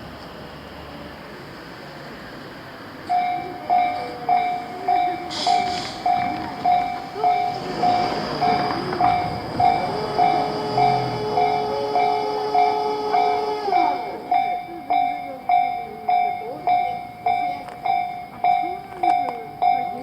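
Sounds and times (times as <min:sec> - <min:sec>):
train running: 0:00.0 - 0:20.0
level-crossing warning bell: 0:02.5 - 0:20.0.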